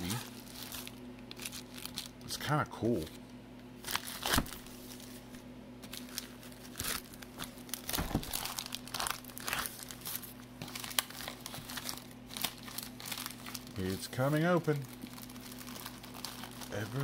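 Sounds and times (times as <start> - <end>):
plastic shrink wrap crinkling: 0.0 - 3.2, 3.8 - 17.0.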